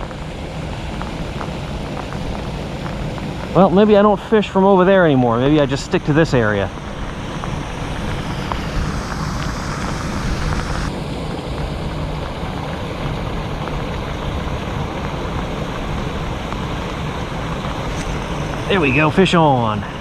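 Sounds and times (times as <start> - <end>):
heavy rain: 0.0 - 20.0
low rumble: 0.0 - 20.0.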